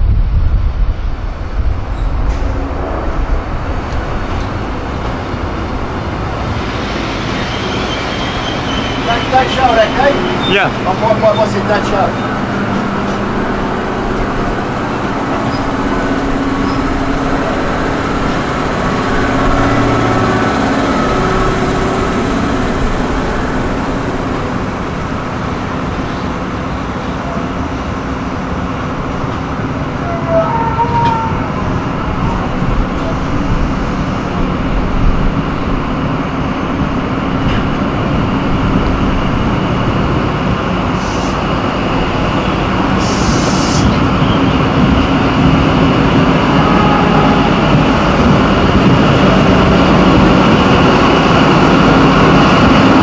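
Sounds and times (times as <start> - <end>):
diesel train engine drone: 0.0 - 53.0
high whine: 0.1 - 53.0
carriages rumbling by: 1.3 - 53.0.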